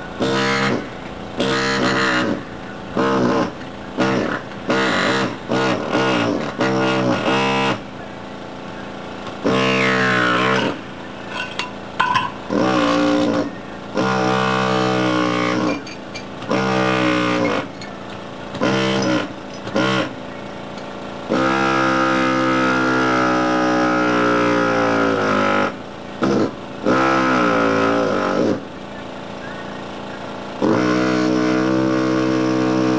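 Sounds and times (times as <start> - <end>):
pneumatic air hammer buzzing: 0.0 - 32.9.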